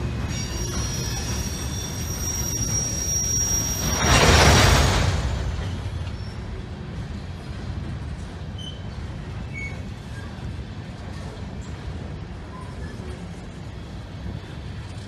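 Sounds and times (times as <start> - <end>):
train cars rolling on rails: 0.0 - 15.0.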